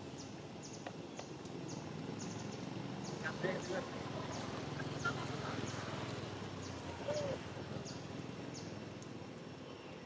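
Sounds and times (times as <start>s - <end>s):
low steady background noise: 0.0s - 10.0s.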